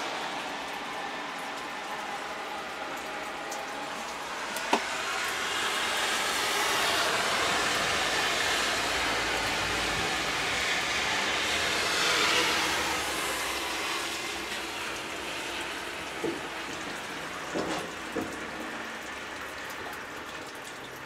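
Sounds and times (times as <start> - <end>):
rushing bus cab noise: 0.0 - 18.6.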